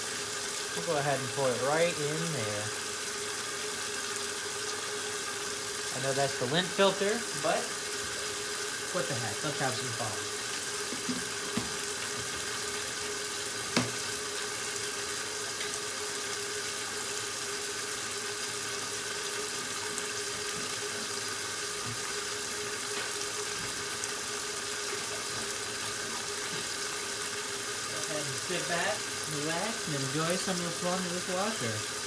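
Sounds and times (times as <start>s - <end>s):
water rushing into tub: 0.0s - 32.0s.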